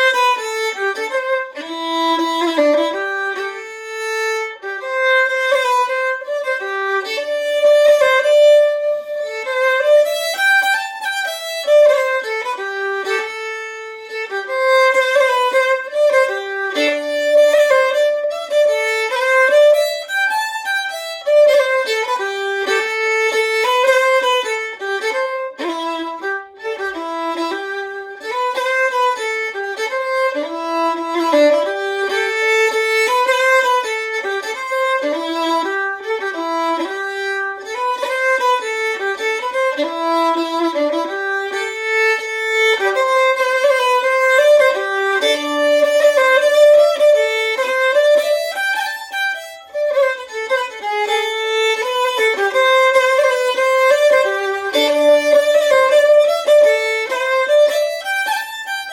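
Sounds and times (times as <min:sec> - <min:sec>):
solo fiddle playing lively tune: 0:00.0 - 0:58.9.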